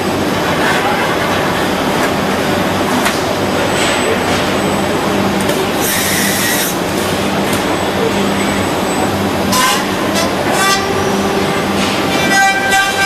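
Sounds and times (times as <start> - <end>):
machine noise: 0.0 - 13.0.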